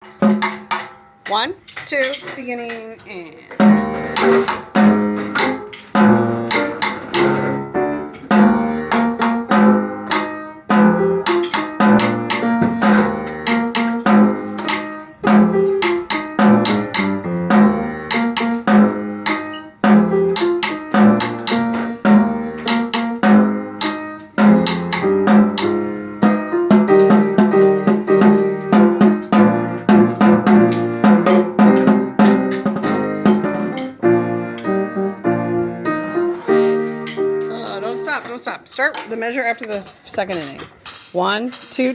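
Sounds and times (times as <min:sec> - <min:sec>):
snare drum rhythm: 0:00.0 - 0:01.5, 0:03.6 - 0:38.2
instrumental accompaniment: 0:00.0 - 0:39.4.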